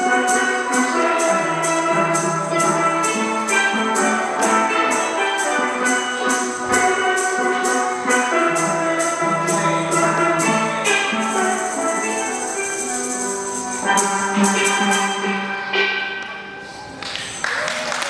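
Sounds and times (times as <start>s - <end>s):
upbeat music: 0.0s - 16.3s.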